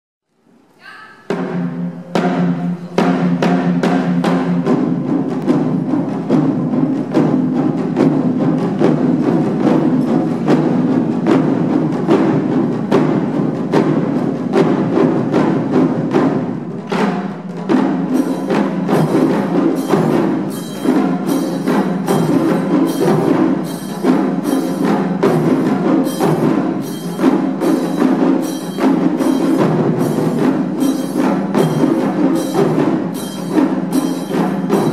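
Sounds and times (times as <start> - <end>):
taiko drumming: 0.8 - 34.9.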